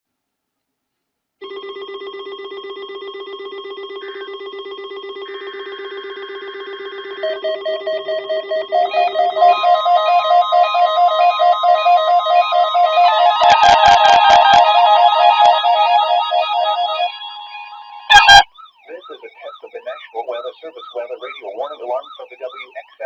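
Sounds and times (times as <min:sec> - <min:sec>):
pulsing electronic alarm buzz: 0:01.4 - 0:23.0
steady high alarm tone: 0:01.4 - 0:23.0.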